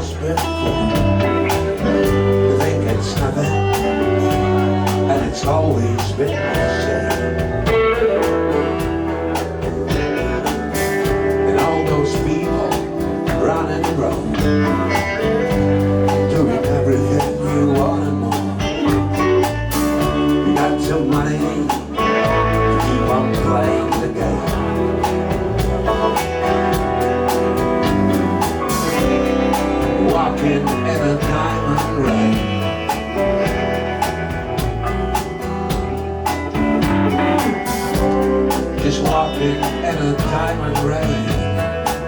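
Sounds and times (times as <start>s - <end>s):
bass guitar: 0.0s - 42.0s
drums: 0.0s - 42.0s
electric guitar: 0.0s - 42.0s.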